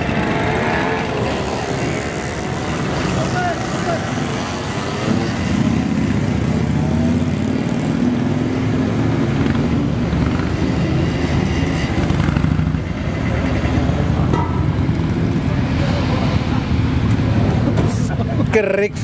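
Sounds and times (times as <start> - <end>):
motorcycles riding past: 0.0 - 18.5.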